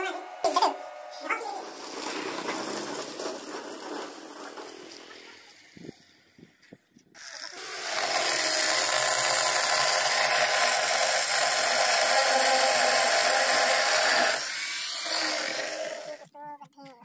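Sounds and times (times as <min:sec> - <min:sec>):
electric drill running under load: 0:00.0 - 0:06.1, 0:07.2 - 0:16.2.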